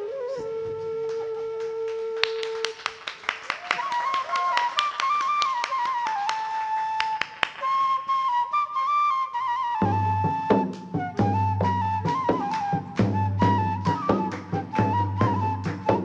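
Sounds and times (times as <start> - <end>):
flute solo melody: 0.0 - 3.0, 3.6 - 16.0.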